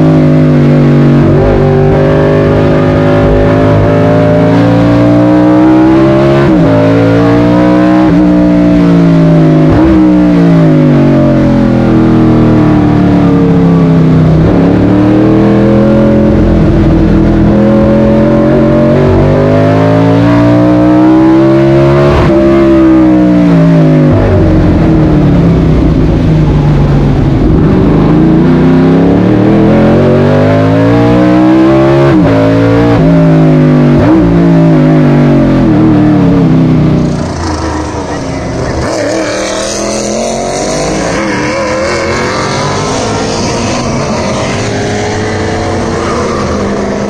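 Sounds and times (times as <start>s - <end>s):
racing car engine accelerating: 0.0s - 47.0s.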